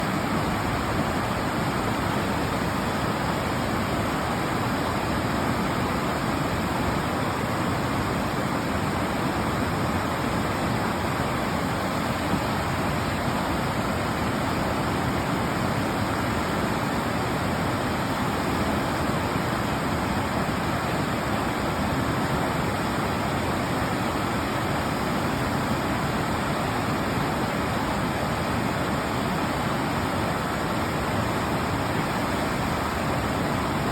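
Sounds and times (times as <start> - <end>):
mountain river water rushing: 0.0 - 33.9.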